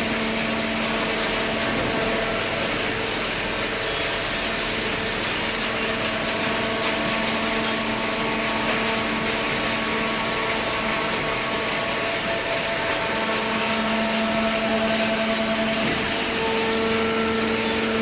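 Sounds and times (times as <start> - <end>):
baler machine humming: 0.0 - 18.0.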